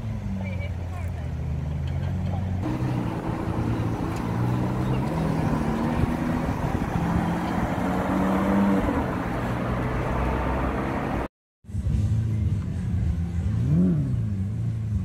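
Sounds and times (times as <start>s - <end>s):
sports car engine accelerating: 2.6s - 15.0s.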